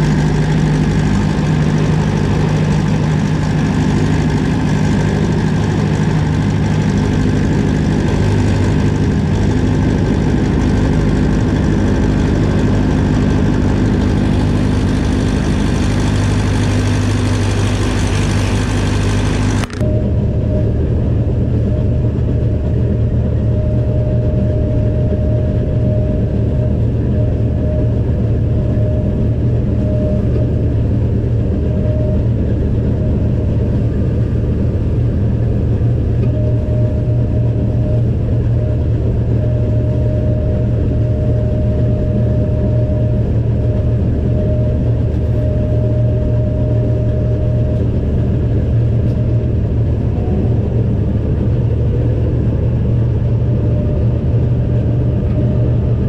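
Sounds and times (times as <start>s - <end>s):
diesel engine running: 0.0s - 56.0s
faint steady whine: 0.0s - 56.0s
muffled drone of threshing machinery: 0.0s - 56.0s.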